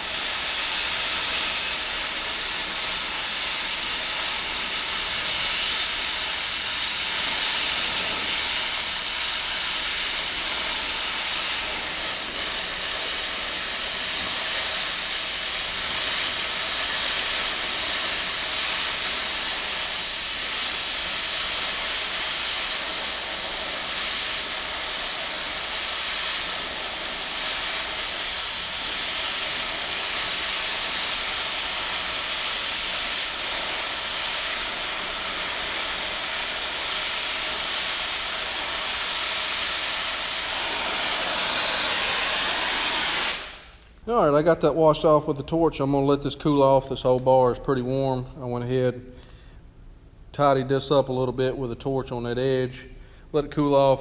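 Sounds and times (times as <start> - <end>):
cutting torch hissing: 0.0 - 45.2.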